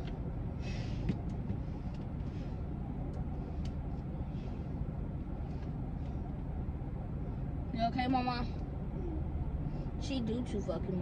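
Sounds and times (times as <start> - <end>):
car running low rumble: 0.0 - 11.0.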